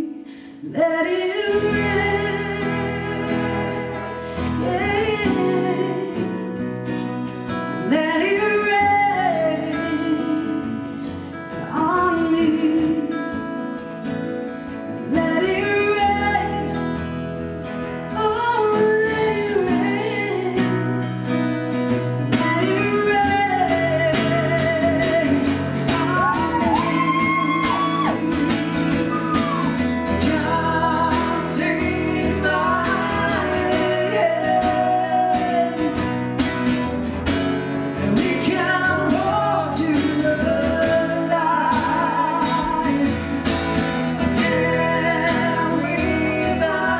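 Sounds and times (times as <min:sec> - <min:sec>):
woman singing slow song: 0:00.0 - 0:06.7, 0:07.8 - 0:13.5, 0:15.0 - 0:17.0, 0:18.1 - 0:21.1, 0:22.3 - 0:36.2, 0:38.0 - 0:43.4, 0:44.3 - 0:46.9
acoustic guitar strumming: 0:00.0 - 0:46.9.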